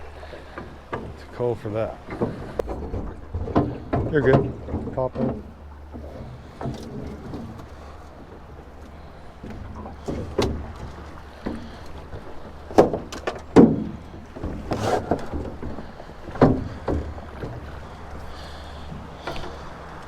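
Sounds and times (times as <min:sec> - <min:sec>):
knocks and thuds in a boat: 0:00.0 - 0:20.0.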